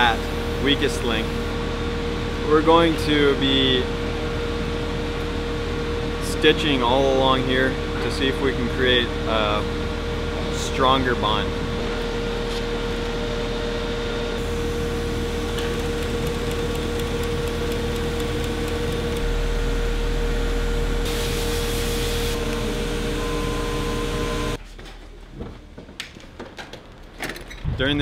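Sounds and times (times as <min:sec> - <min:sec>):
workshop machinery hum: 0:00.0 - 0:28.0.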